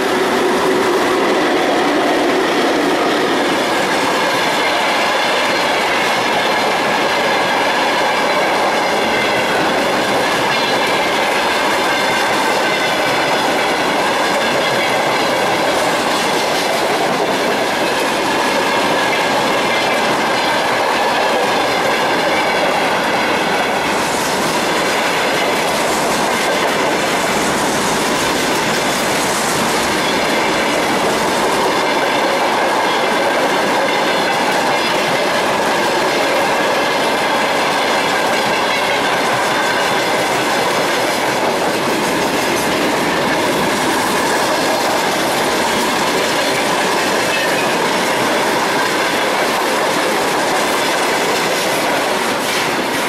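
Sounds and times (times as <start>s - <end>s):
freight train wagons rumbling past: 0.0s - 53.0s.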